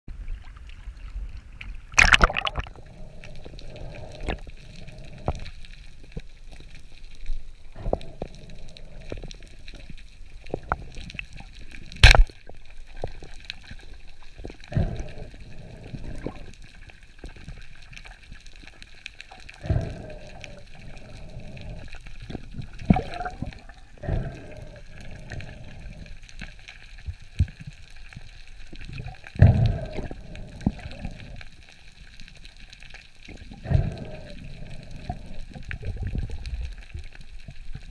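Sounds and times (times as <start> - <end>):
water sloshing and gurgling: 0.1 - 37.9.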